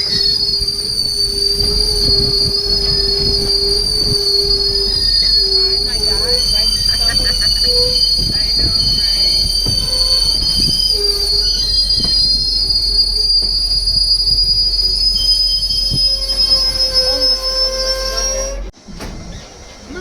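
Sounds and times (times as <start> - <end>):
lower squeal tone: 0.0 - 20.0
train wheels squealing on rails: 0.0 - 20.0.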